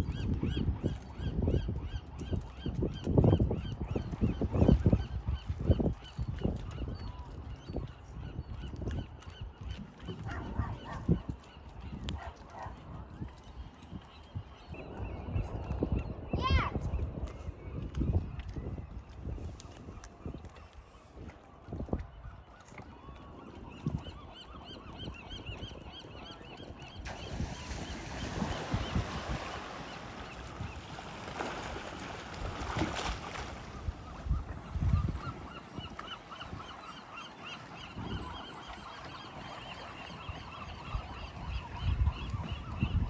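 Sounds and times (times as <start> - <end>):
birds calling: 6.9 - 43.0.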